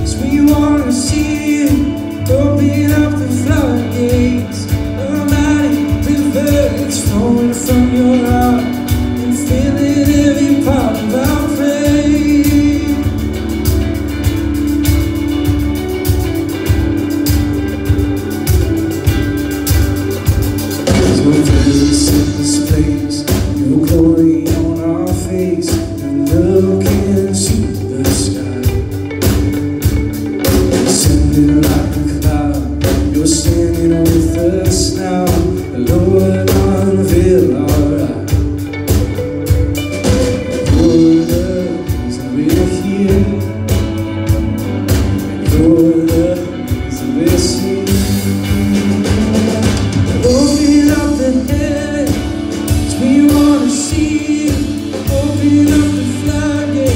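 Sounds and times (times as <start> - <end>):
drum kit and cymbal hits: 0.0 - 56.9
electric bass: 0.0 - 56.9
electric lead guitar melody: 0.0 - 56.9.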